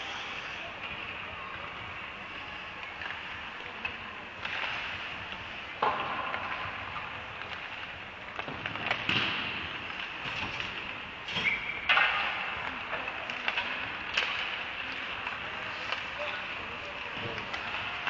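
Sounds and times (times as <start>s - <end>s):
hockey sticks and puck clacking: 2.3s - 18.0s.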